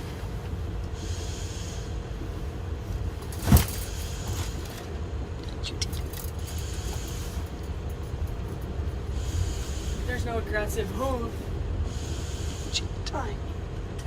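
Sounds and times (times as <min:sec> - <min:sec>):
vehicle rumble from inside cabin: 0:00.0 - 0:14.0.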